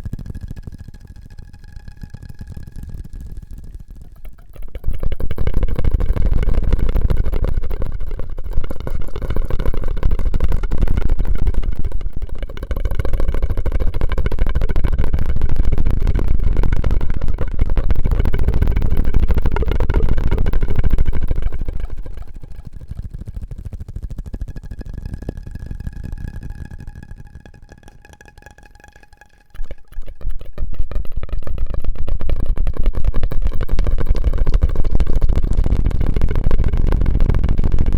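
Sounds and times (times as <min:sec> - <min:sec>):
straw crackling rumble: 0:00.0 - 0:37.9.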